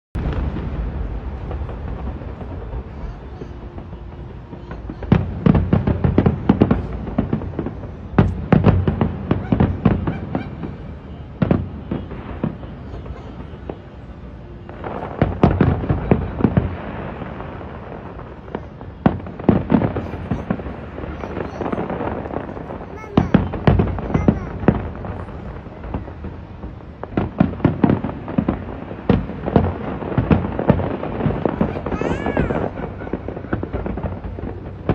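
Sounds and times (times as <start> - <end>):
firework crackle: 0.2 - 34.9.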